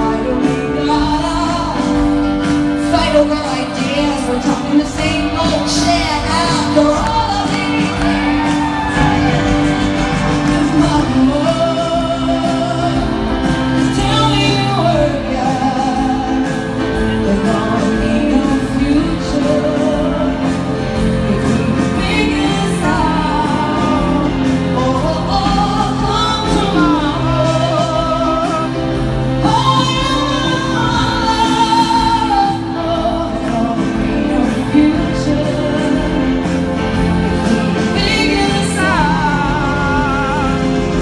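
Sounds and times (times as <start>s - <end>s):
band accompaniment: 0.0s - 41.0s
woman singing pop song: 0.0s - 41.0s.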